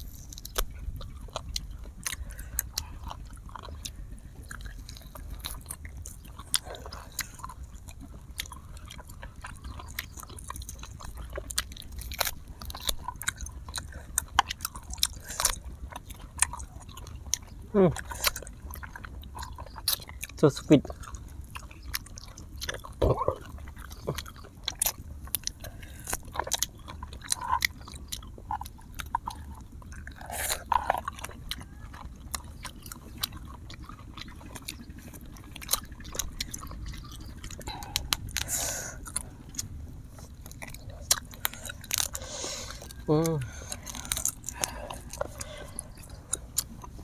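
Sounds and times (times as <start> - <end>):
chewing and biting: 0.0 - 47.0.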